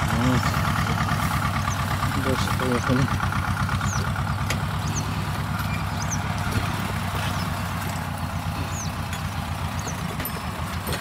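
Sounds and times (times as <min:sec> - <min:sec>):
small vehicle engine running: 0:00.0 - 0:11.0.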